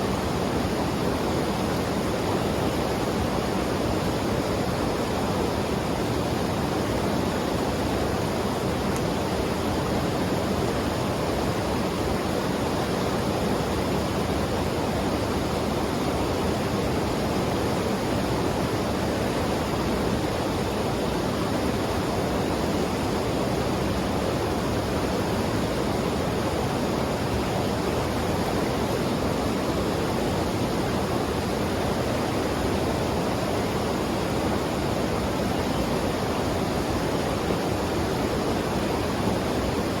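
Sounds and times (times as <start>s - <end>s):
river rushing over rocks: 0.0s - 40.0s.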